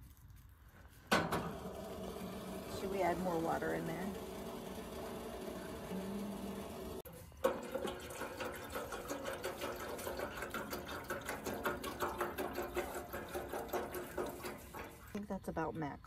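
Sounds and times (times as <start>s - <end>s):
water pouring into kettle: 1.5s - 15.2s.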